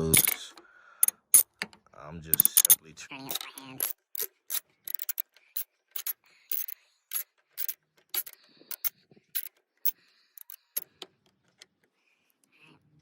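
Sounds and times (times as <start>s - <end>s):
hand ratchet clicking: 0.0s - 1.7s, 2.3s - 11.7s.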